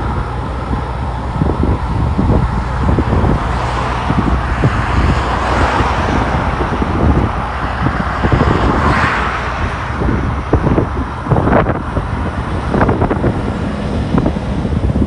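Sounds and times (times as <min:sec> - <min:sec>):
road traffic noise: 0:00.0 - 0:15.0
vehicle passing: 0:00.0 - 0:15.0
wind buffeting microphone: 0:00.0 - 0:15.0.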